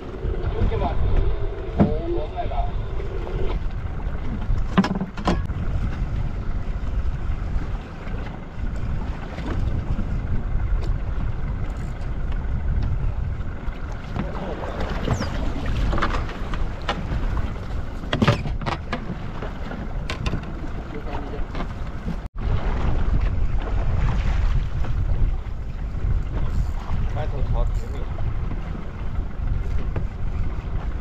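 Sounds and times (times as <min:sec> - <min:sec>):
sea washing around a boat: 0:00.0 - 0:31.0
wind buffeting the microphone: 0:00.0 - 0:31.0.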